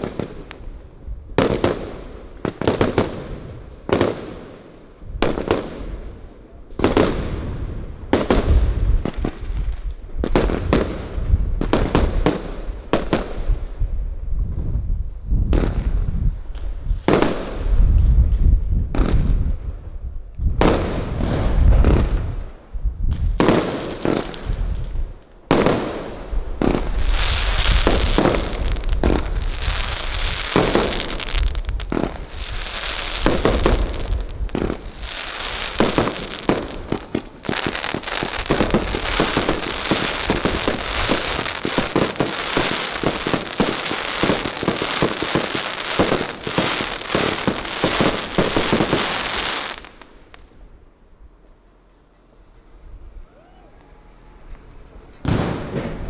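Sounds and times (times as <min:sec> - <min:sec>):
fireworks shots bursting: 0:00.0 - 0:13.8, 0:14.4 - 0:50.7, 0:53.8 - 0:56.0.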